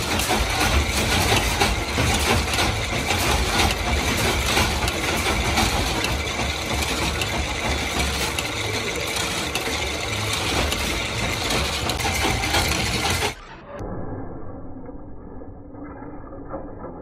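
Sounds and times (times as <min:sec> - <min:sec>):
machine mechanical clatter: 0:00.0 - 0:13.8, 0:15.3 - 0:17.0.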